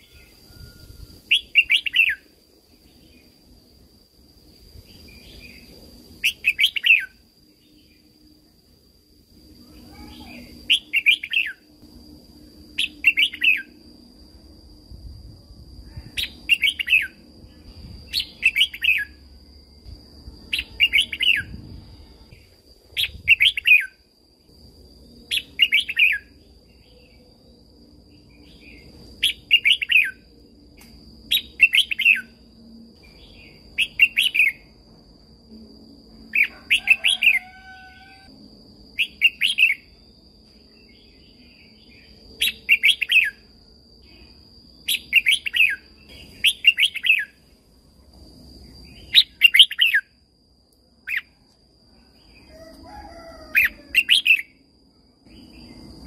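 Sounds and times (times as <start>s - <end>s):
faint high-pitched whine: 0.0s - 56.0s.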